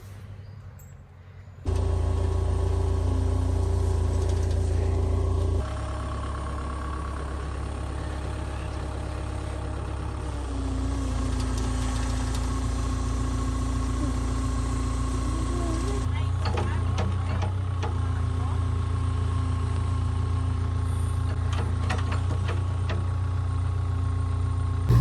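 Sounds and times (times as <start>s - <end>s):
engine running: 1.7s - 25.0s.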